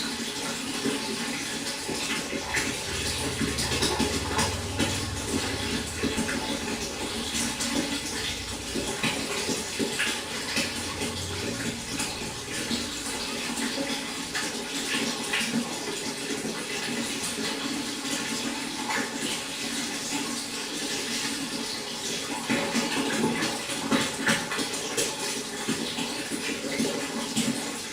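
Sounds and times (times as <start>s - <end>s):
water trickling and splashing: 0.0s - 27.9s.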